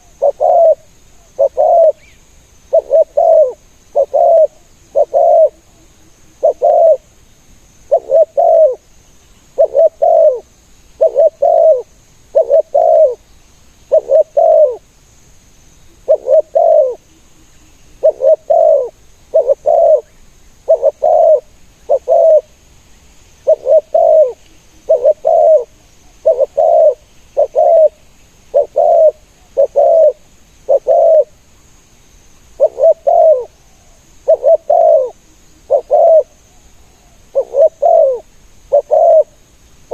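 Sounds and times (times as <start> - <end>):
doves cooing: 0.0 - 2.1, 2.7 - 7.1, 7.9 - 8.9, 9.6 - 13.2, 13.9 - 14.8, 15.9 - 22.6, 23.4 - 31.4, 32.6 - 39.4.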